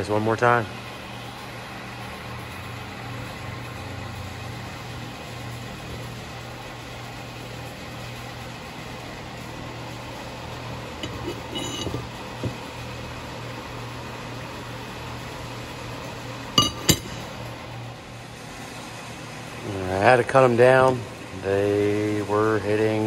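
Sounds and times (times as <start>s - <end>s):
electric machine hum: 0.0s - 23.0s.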